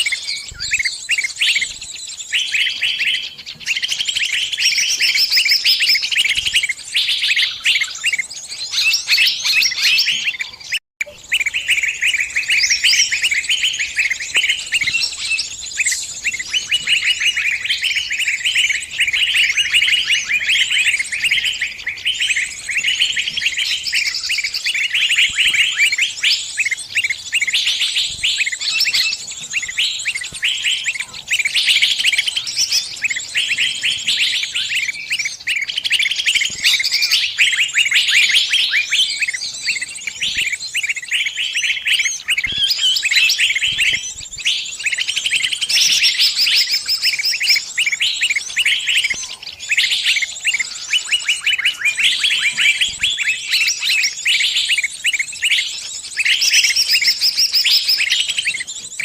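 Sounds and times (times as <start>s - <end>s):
small bird distress chirps: 0.0s - 59.0s.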